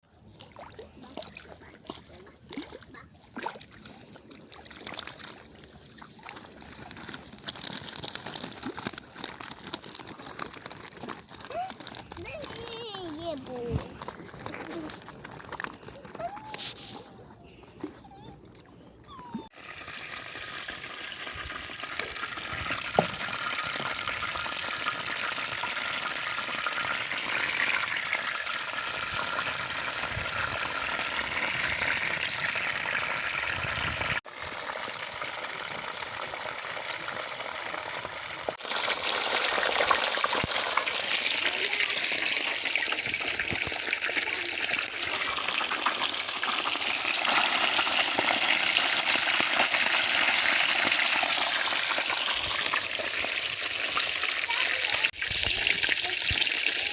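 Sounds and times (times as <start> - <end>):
fish frying in oil: 5.0 - 13.5, 19.5 - 56.9.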